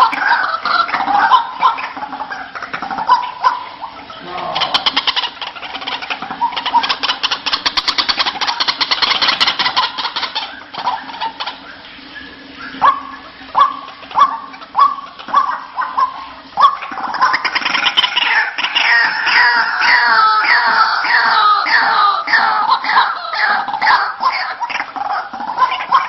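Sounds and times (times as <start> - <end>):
bird rattling call: 0.0 - 22.0.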